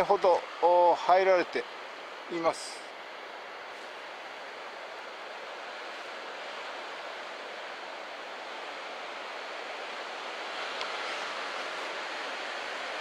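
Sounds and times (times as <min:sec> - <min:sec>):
surf washing up beach: 0:00.0 - 0:13.0.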